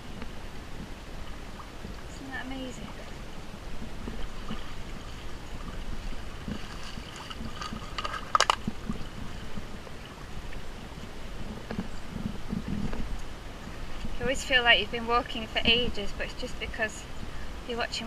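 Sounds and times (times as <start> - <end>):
brook trickling over rocks: 0.2 - 16.1.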